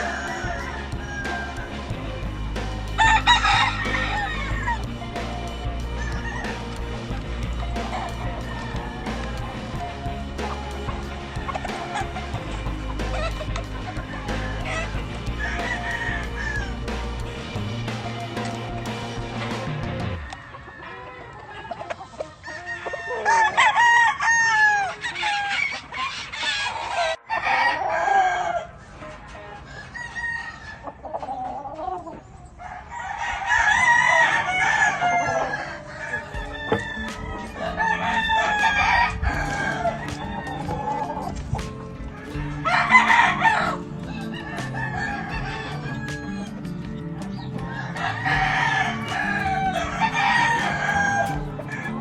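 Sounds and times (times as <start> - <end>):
chickens clucking: 0.0 - 52.0
roosters crowing: 0.0 - 52.0.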